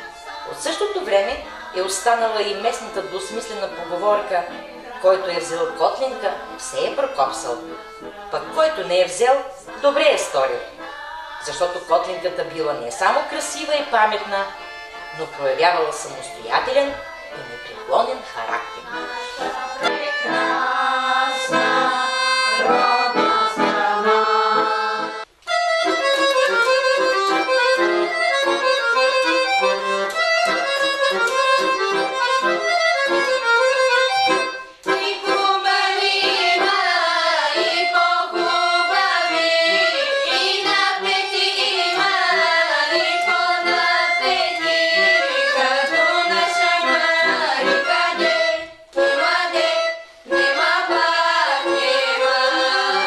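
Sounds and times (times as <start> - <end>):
instrumental background music: 0.0 - 53.0.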